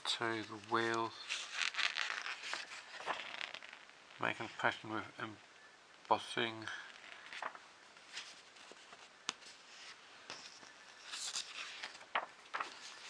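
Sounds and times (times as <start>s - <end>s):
soft rustles: 0.1s - 5.0s, 6.7s - 13.0s.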